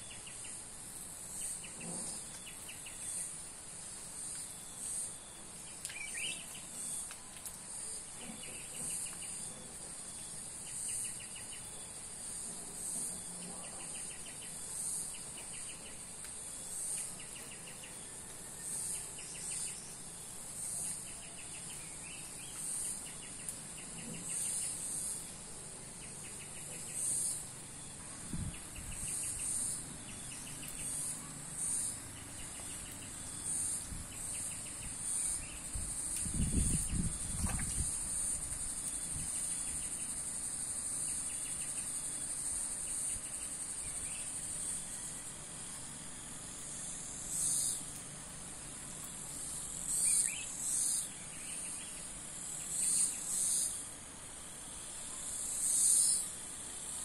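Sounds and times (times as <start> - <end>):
insect rapid ticking trill: 0.0 - 57.0
insects high-pitched drone: 0.0 - 57.0.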